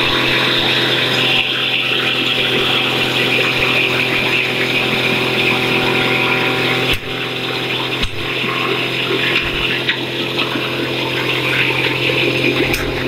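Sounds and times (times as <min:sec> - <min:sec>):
feed grinder crushing corn: 0:00.0 - 0:13.0.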